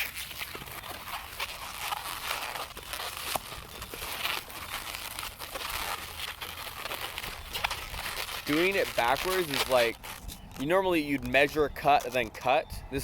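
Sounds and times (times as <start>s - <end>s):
balloon squeaks: 0.0s - 12.4s
balloons rubbing and crinkling: 0.0s - 13.0s.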